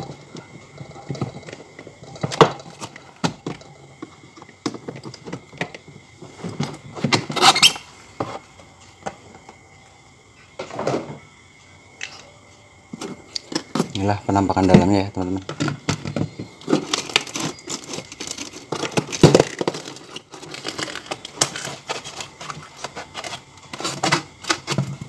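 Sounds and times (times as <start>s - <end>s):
plastic cover scraping: 0.0s - 8.5s, 13.0s - 25.0s.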